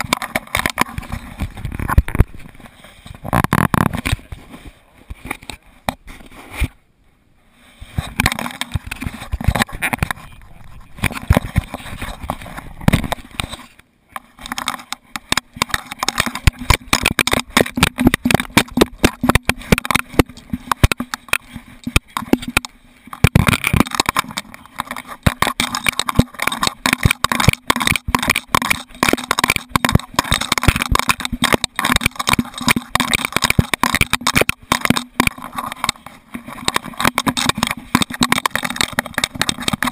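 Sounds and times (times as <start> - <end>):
camera knocks and rattles: 0.0 - 4.4, 8.0 - 39.9.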